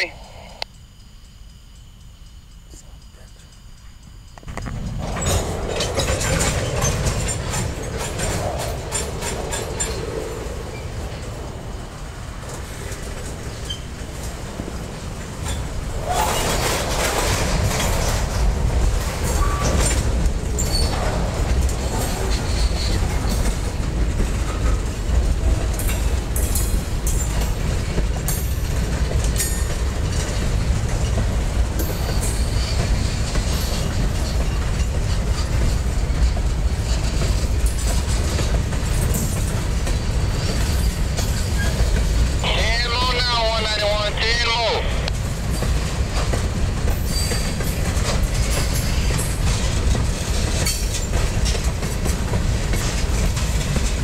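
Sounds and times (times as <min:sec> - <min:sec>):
train wheels rumbling on rail: 0:00.0 - 0:54.0
wheels clattering over rail joints: 0:04.4 - 0:42.4, 0:45.2 - 0:54.0.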